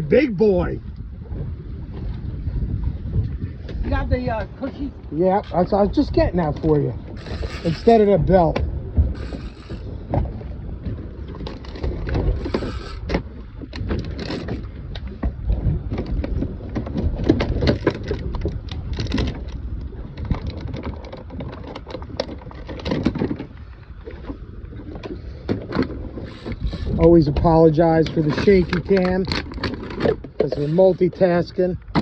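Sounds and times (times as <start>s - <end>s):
boat engine rumble: 0.0s - 32.0s
wind and water: 0.0s - 32.0s.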